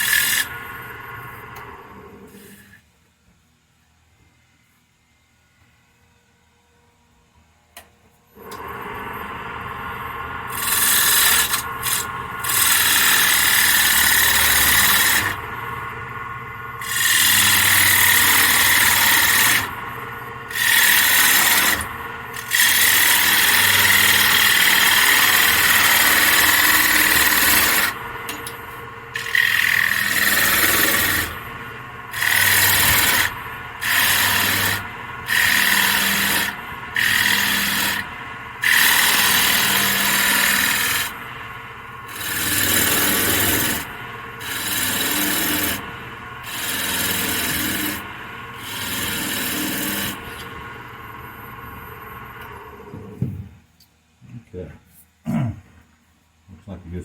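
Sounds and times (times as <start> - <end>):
wood lathe running: 0.0 - 2.7, 8.4 - 53.1
tool scraping spinning wood: 0.0 - 2.8, 8.4 - 51.6.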